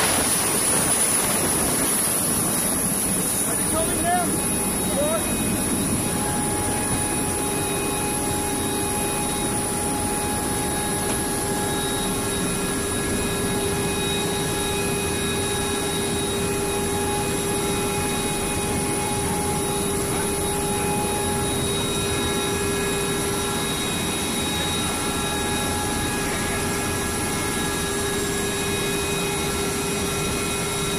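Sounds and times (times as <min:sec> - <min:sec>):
helicopter engines from inside cabin: 0:00.0 - 0:30.9.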